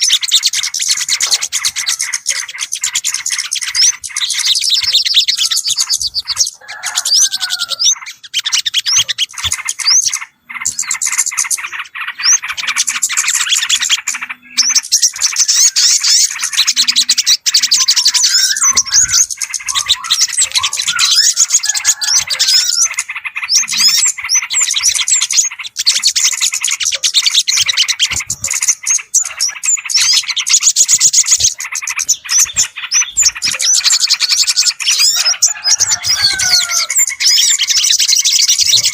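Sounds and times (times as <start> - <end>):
chatter of many small birds: 0.0 - 38.9.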